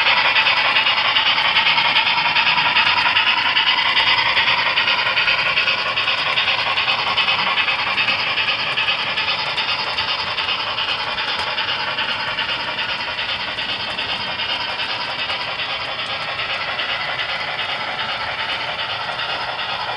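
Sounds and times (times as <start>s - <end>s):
train clattering on track: 0.0s - 19.9s.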